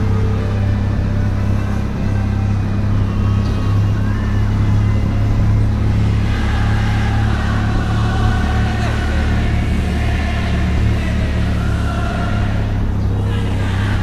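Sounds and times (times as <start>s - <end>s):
motorcycle engine running: 0.0s - 14.0s
wind noise: 0.0s - 14.0s.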